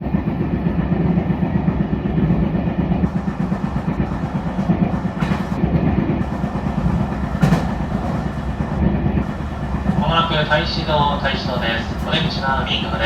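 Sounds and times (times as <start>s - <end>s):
electric train running: 0.5s - 13.0s
rhythmic pounding of wheel flat: 0.6s - 13.0s.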